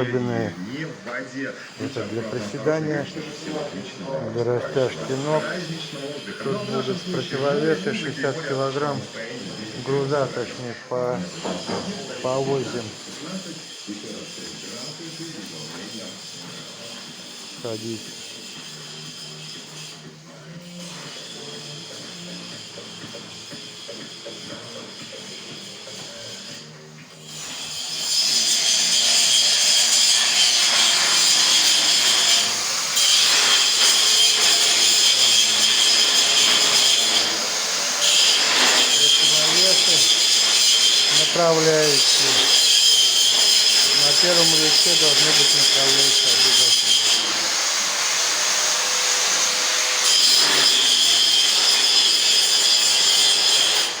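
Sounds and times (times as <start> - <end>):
angle grinder cutting steel: 0.0 - 54.0
power tool whining: 0.0 - 54.0.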